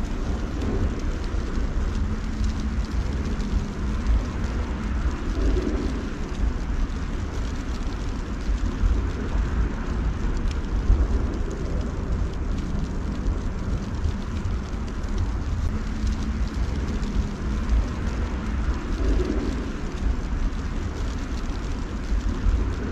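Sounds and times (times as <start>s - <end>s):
steady low hiss: 0.0s - 22.9s
wind rumbling on microphone: 0.0s - 22.9s.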